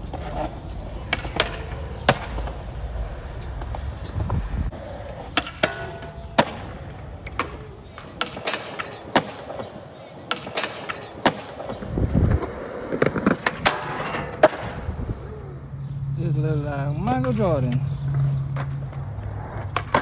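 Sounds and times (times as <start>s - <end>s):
skateboard tails clacking: 0.0s - 15.5s, 17.0s - 20.0s
skateboard wheels rolling on concrete: 0.0s - 15.9s, 16.9s - 20.0s.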